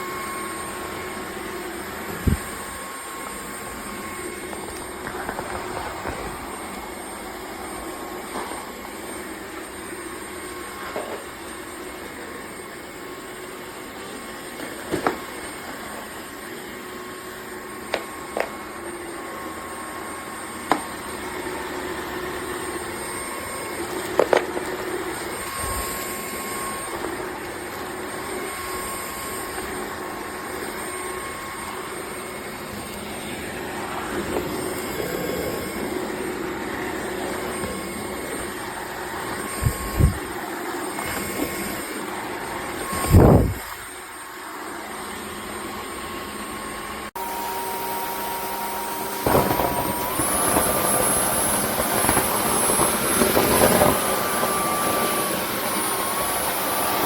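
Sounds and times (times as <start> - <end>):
vacuum mop motor whine: 0.0 - 57.0.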